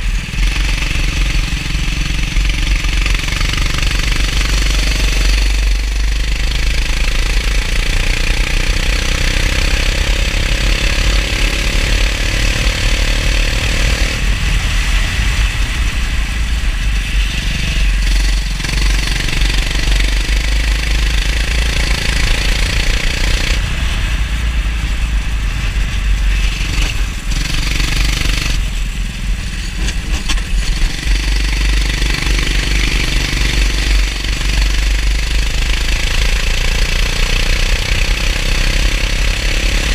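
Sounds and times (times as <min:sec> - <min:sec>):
go-kart engine accelerating: 0:00.0 - 0:39.9.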